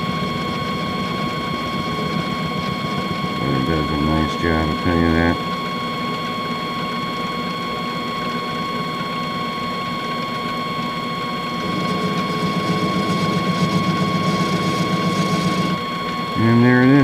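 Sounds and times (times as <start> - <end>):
rapid mechanical pulsing: 0.0 - 10.6, 11.3 - 17.0
metal lathe whirring: 0.0 - 17.0.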